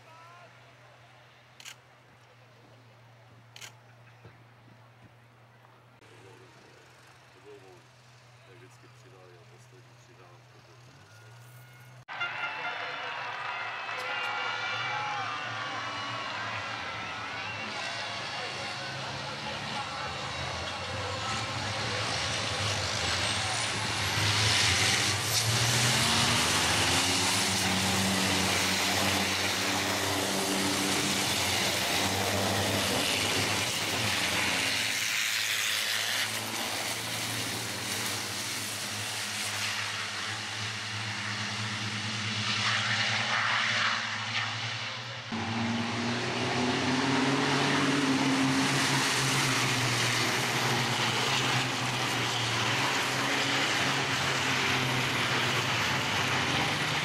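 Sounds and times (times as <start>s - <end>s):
truck engines running hard: 0.0s - 12.0s, 12.7s - 57.0s.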